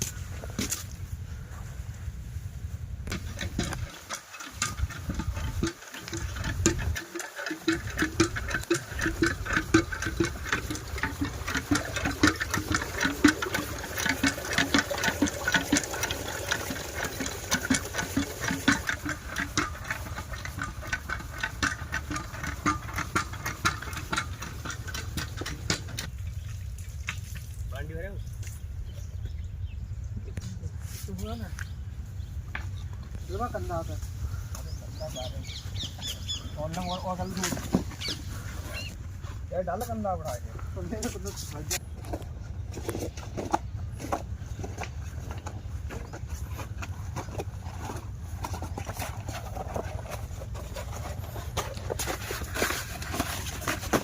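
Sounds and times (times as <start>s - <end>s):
diesel water pump engine clattering: 0.0s - 29.4s, 32.3s - 54.0s.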